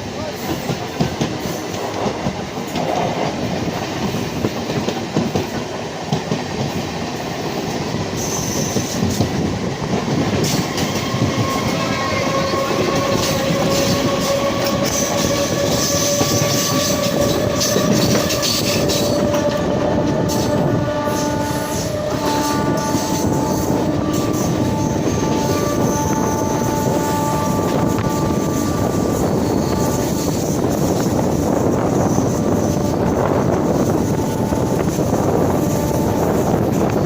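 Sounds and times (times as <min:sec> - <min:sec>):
train wheels clattering over rails: 0:00.0 - 0:37.0.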